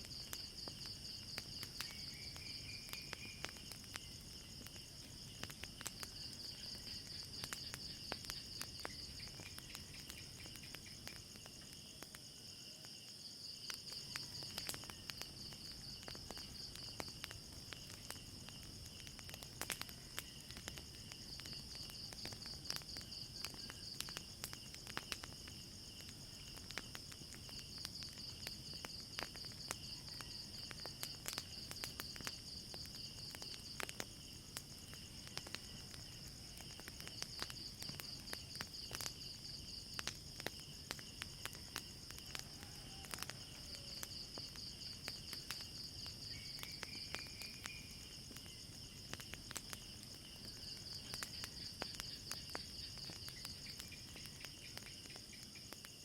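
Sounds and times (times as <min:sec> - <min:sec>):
crickets chirping: 0:00.0 - 0:56.0
fire crackling and popping: 0:00.0 - 0:56.0.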